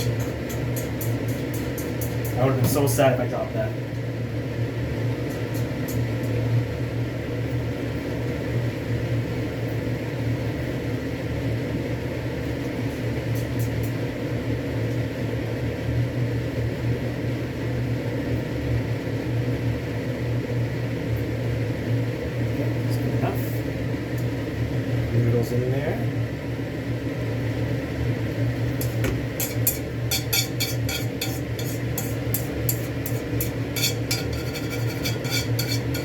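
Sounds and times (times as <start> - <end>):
mechanical hum: 0.0 - 36.0.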